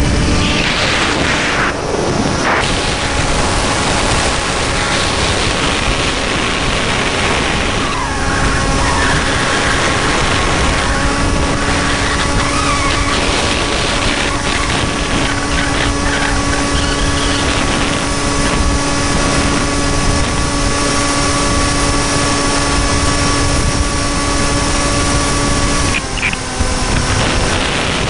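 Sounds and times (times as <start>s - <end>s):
electric motor and propeller whine: 0.0s - 28.0s
wind rushing on microphone: 0.0s - 28.0s.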